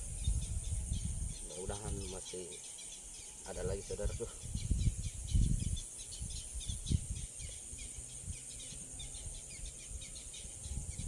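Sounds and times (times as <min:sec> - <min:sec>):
insect chorus buzzing and chirping: 0:00.0 - 0:11.0.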